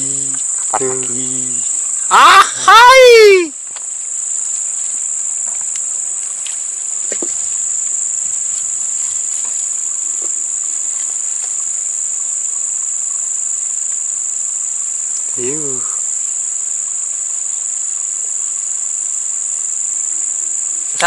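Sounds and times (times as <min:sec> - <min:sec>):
faint ticks and chirps: 0:00.0 - 0:02.2, 0:03.5 - 0:21.0
night insects droning: 0:00.0 - 0:21.0.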